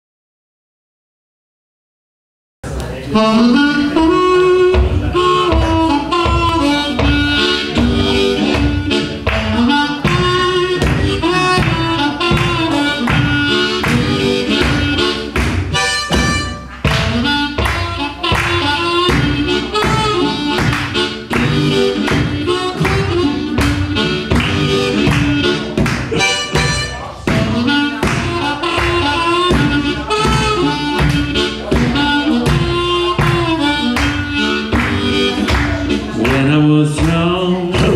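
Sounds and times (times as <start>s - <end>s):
guitar: 2.7s - 37.9s
harmonica melody: 3.0s - 37.9s
steady drumbeat: 4.6s - 37.9s.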